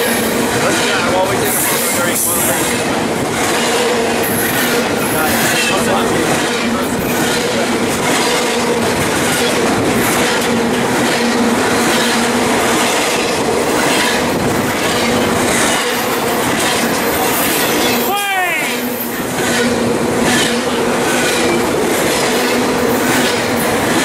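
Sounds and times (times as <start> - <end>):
train wheels roaring on rail: 0.0 - 24.0
wheels clicking over rail joints: 0.0 - 24.0.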